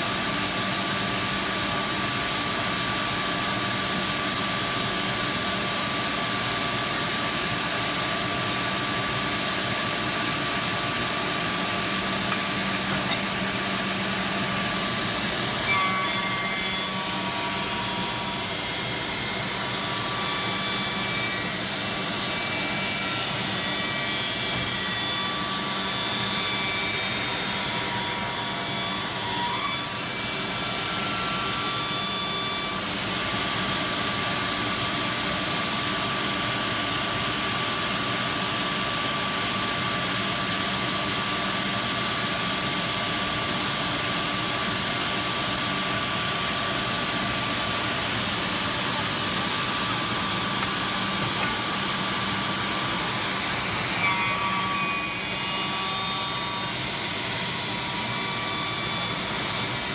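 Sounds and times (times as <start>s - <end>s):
wood shaper milling whine: 5.6s - 59.9s.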